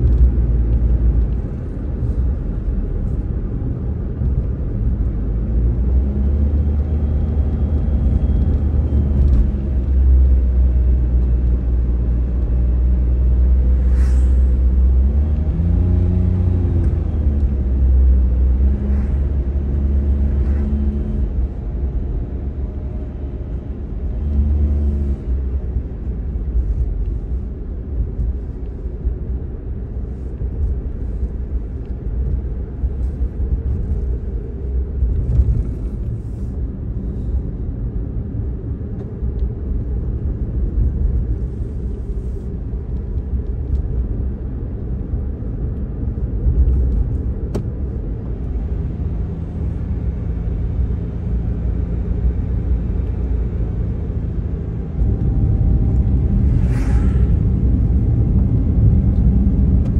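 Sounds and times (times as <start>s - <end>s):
car cabin road rumble: 0.0s - 59.9s
engine hum: 0.0s - 59.9s.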